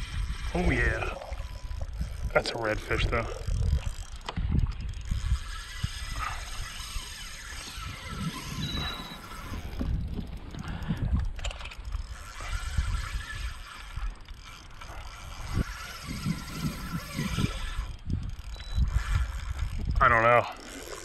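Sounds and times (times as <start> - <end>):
wind rumbling on microphone: 0.0 - 20.9
fishing reel clicking: 0.0 - 21.0.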